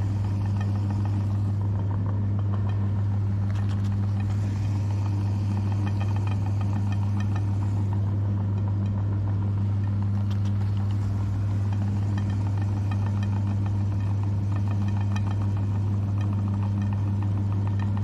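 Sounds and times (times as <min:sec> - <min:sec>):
grinder ticks and crackles: 0:00.0 - 0:18.0
meat grinder motor humming: 0:00.0 - 0:18.0.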